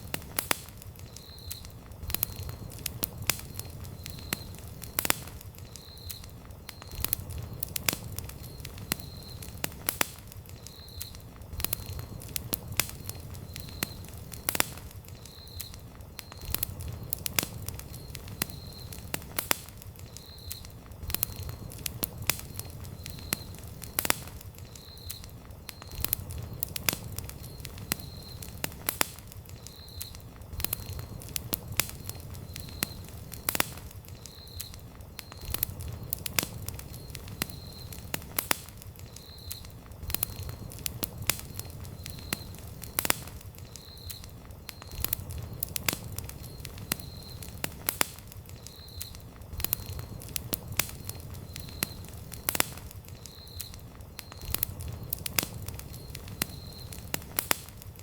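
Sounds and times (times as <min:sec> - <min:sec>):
campfire crackling: 0:00.0 - 0:58.0
low rumble of flame: 0:00.0 - 0:58.0.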